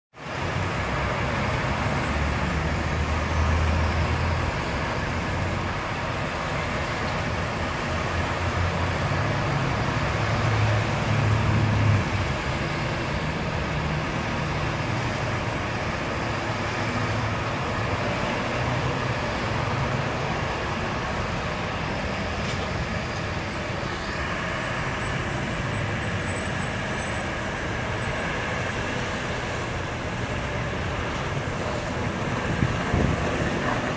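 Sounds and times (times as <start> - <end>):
road traffic noise: 0.1 - 33.9.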